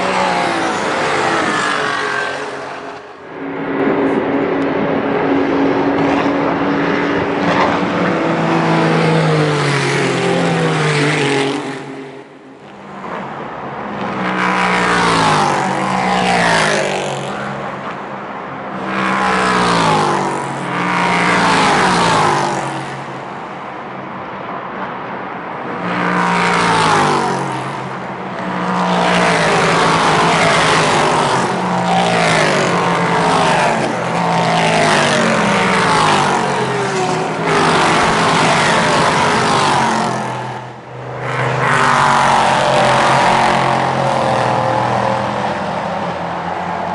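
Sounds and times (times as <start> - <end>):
race cars passing at speed: 0.0 - 46.9.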